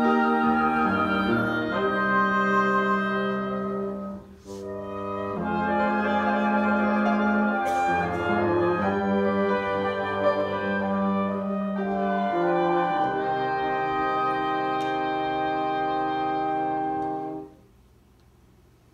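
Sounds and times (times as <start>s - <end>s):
wind instruments and piano chords: 0.0s - 17.6s.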